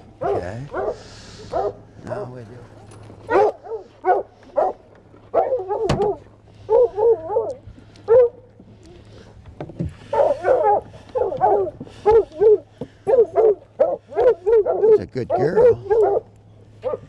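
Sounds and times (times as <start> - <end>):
hounds yelping and whining: 0.2 - 1.9, 2.8 - 8.6, 10.0 - 17.0.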